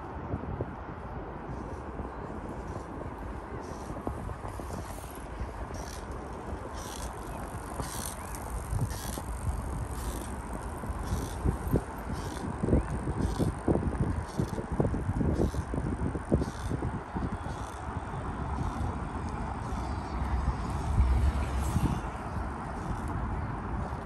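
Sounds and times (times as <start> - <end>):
wind and bicycle tyres rushing: 0.0 - 24.0.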